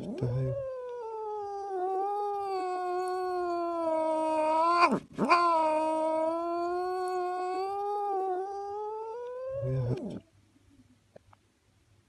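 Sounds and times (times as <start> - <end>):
cat yowling: 0.0 - 10.2.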